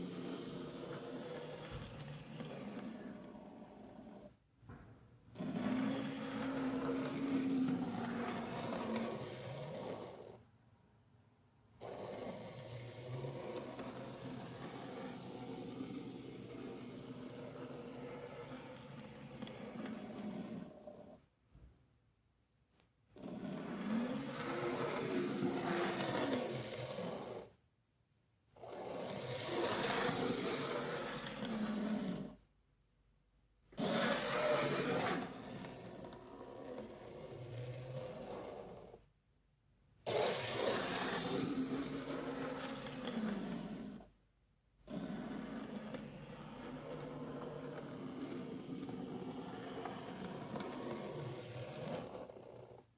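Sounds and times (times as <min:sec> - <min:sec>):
model locomotive motor humming: 0:00.0 - 0:04.3, 0:05.4 - 0:10.4, 0:11.8 - 0:21.2, 0:23.2 - 0:27.5, 0:28.6 - 0:32.4, 0:33.8 - 0:39.0, 0:40.1 - 0:44.1, 0:44.9 - 0:52.8.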